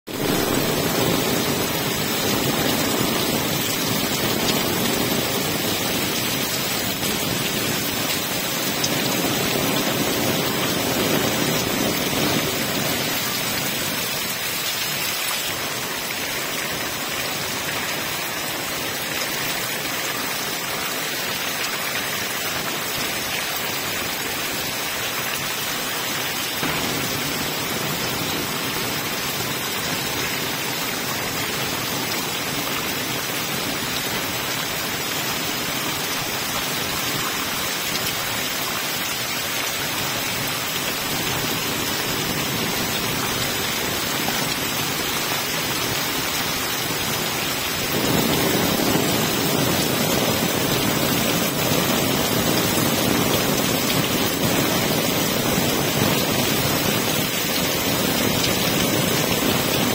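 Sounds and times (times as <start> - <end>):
heavy rain splashing on ground: 0.0 - 59.9.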